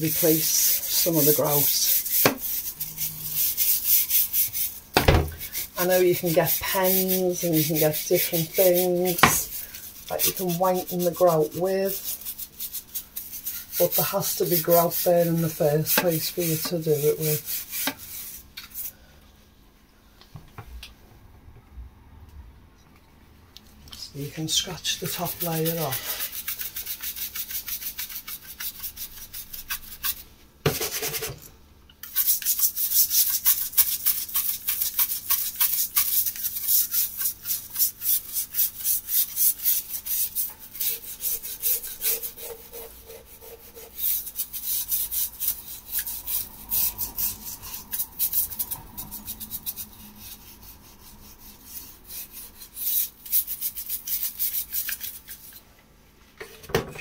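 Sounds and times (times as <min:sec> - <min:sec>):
brush scrubbing tile grout: 0:00.0 - 0:18.9, 0:24.2 - 0:31.4, 0:32.0 - 0:55.6.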